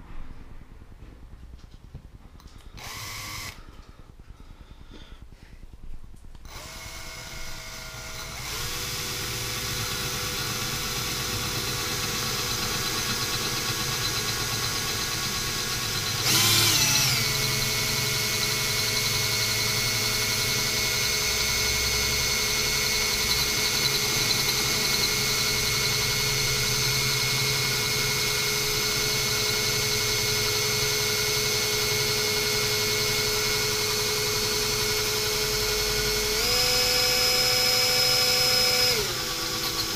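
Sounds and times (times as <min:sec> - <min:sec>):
cordless drill boring glass: 0:02.8 - 0:03.6, 0:06.5 - 0:39.9.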